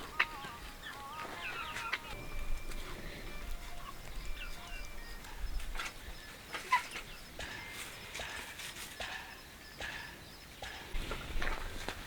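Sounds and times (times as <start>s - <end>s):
high chirps: 0.0s - 10.9s
chickens clucking: 0.0s - 12.0s.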